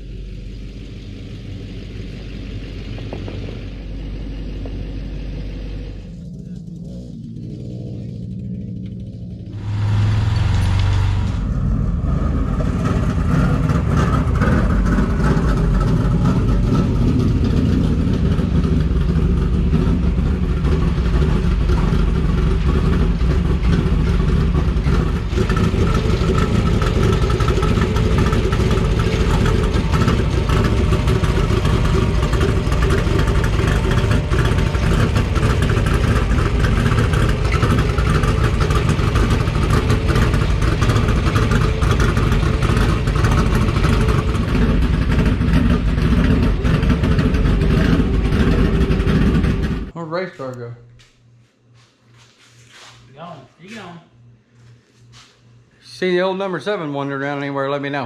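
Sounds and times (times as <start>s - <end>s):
truck engine running: 0.0s - 50.6s.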